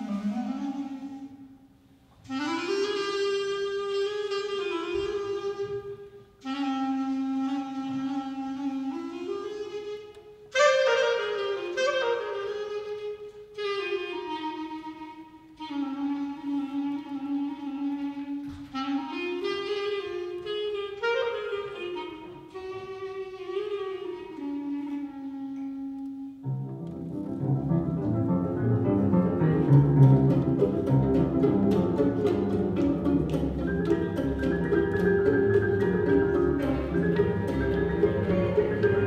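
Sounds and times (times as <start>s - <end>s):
woodwind melody: 0.0s - 39.0s.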